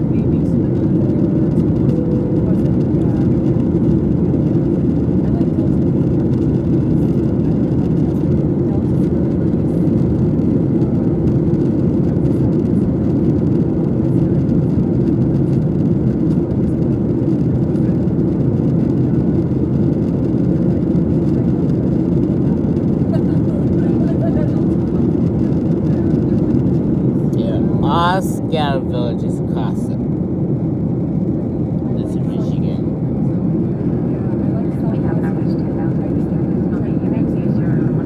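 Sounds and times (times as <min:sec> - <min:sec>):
jet airliner roar: 0:00.0 - 0:38.0.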